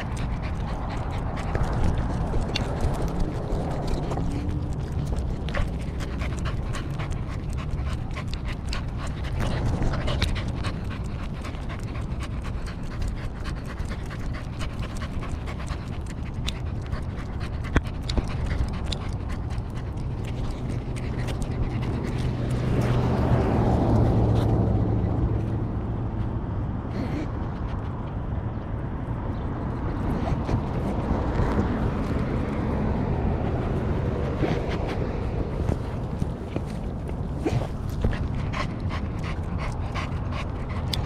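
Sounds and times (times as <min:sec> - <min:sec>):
dog panting: 0:00.0 - 0:25.7, 0:26.9 - 0:41.0.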